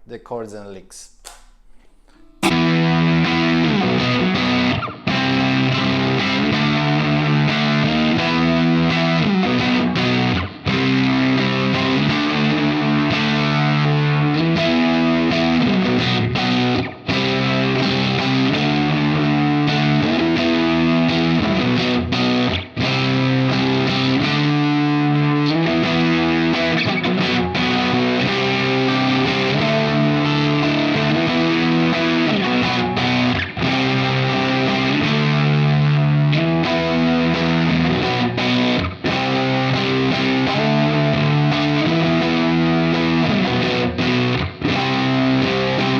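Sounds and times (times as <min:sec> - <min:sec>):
distorted electric guitar riff: 0:01.3 - 0:45.9.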